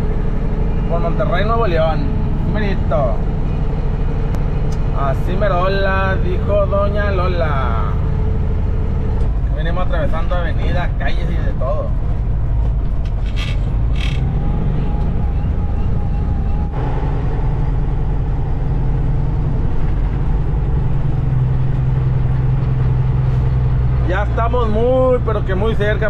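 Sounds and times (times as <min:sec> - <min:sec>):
truck engine and road drone: 0:00.0 - 0:26.0.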